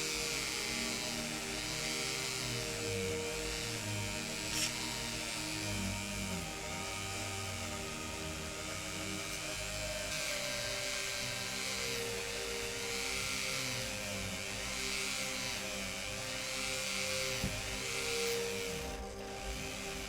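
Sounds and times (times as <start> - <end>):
motorised wire brush whirring: 0.0 - 20.0.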